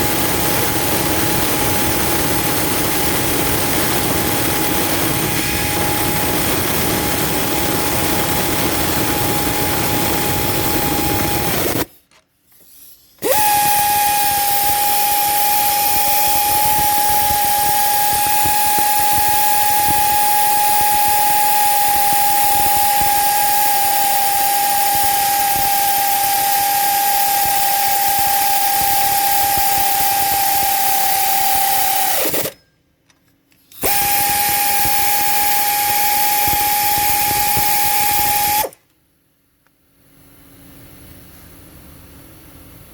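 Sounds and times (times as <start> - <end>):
power tool motor whining: 0.0 - 11.9, 13.2 - 32.6, 33.7 - 38.8.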